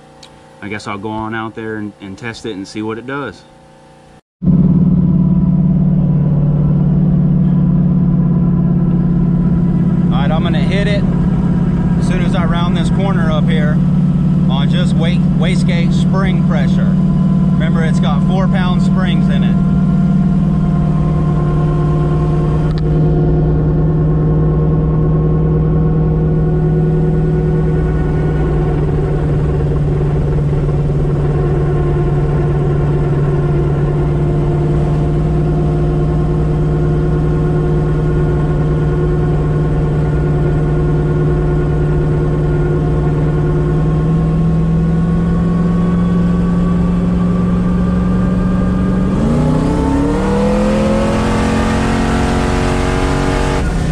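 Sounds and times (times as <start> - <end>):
car engine from inside cabin: 0.0 - 53.9.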